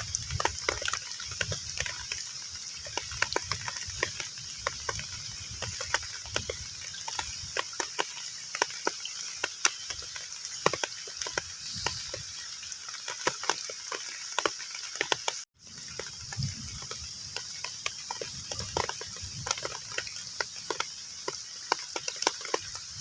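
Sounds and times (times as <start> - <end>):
heavy rain falling on a pond: 0.0 - 23.0.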